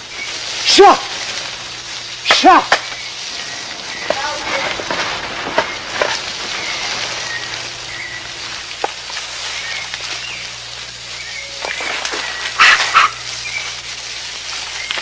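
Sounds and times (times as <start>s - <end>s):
insects hissing: 0.0s - 15.0s.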